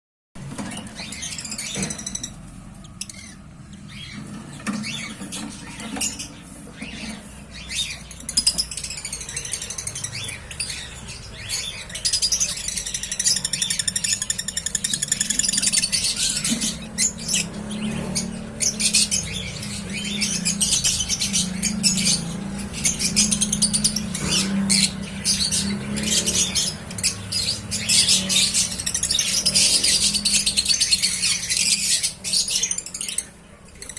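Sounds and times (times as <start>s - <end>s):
chicks cheeping: 0.4s - 33.9s.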